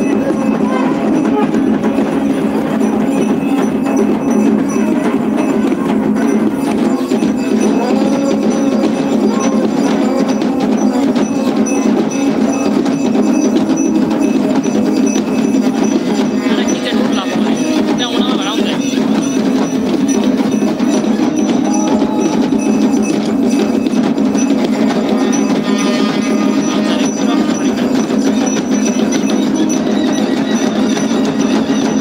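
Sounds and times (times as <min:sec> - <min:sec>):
drums beaten fast: 0:00.0 - 0:32.0
ringing metal percussion: 0:00.0 - 0:32.0.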